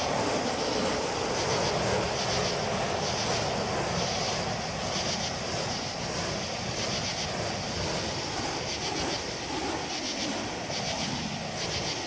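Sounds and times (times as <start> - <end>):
fire hoop flames roaring: 0.0 - 12.0
flames whooshing: 0.0 - 12.0.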